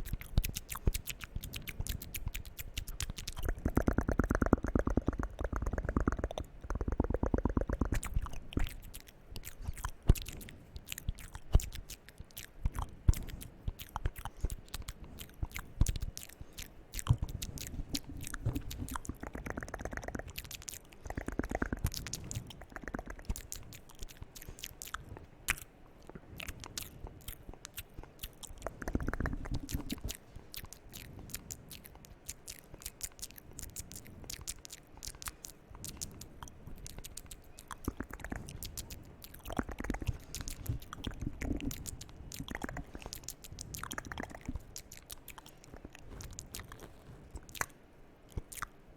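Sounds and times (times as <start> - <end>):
wet mouth clicks and smacks: 0.0 - 48.8.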